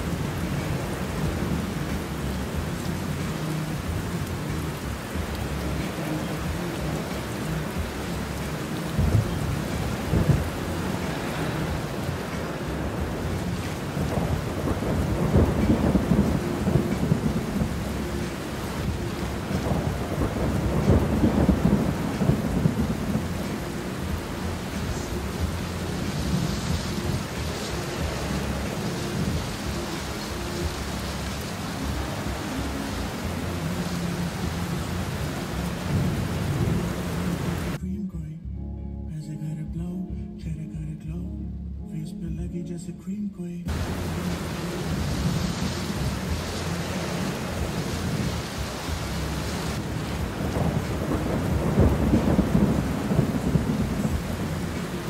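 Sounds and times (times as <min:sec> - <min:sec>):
heavy rain on car roof: 0:00.0 - 0:37.8, 0:43.7 - 0:55.0.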